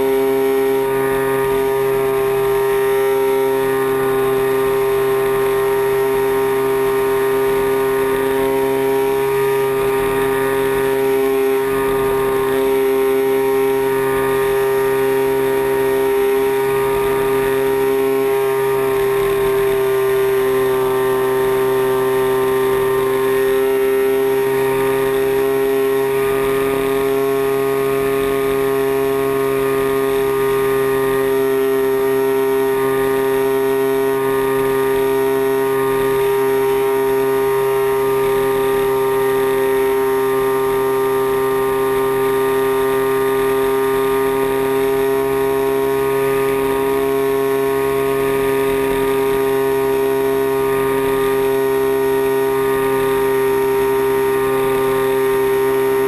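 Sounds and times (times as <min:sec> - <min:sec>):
model airplane engine running: 0:00.0 - 0:56.0.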